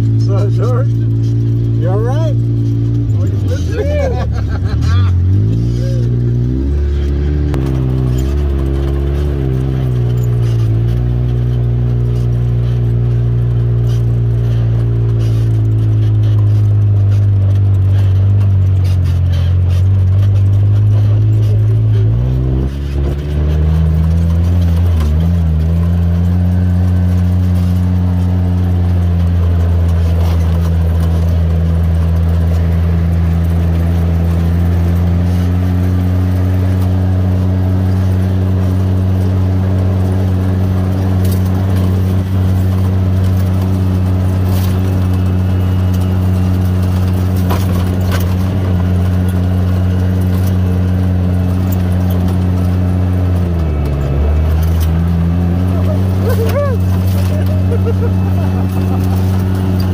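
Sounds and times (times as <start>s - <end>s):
light rattles and clicks: 0.0s - 59.9s
vehicle engine droning: 0.0s - 59.9s.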